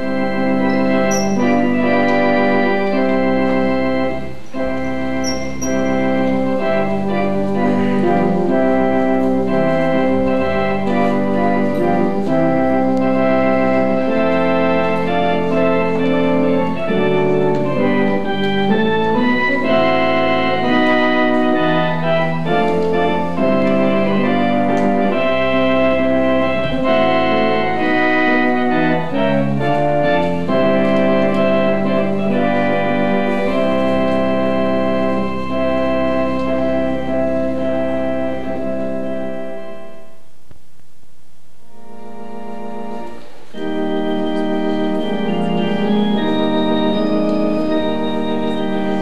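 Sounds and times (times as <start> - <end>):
organ playing chords: 0.0 - 49.0.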